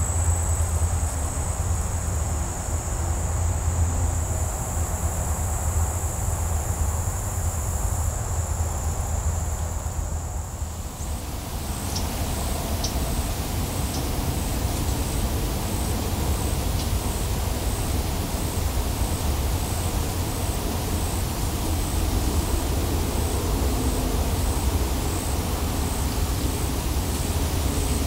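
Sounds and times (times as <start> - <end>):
insects trilling and chirping: 0.0 - 28.0.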